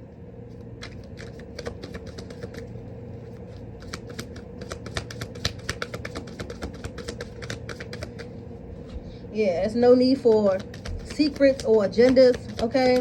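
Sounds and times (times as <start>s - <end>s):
faint steady hum: 0.0s - 13.0s
cards being shuffled: 0.5s - 8.4s, 10.2s - 13.0s.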